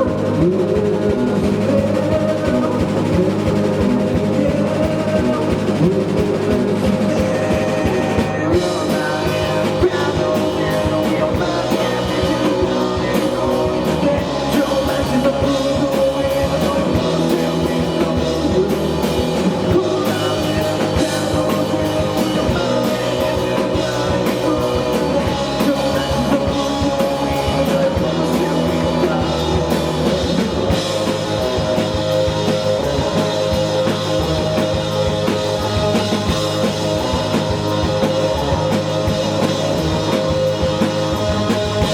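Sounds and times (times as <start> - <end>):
rock band playing live: 0.0 - 41.9.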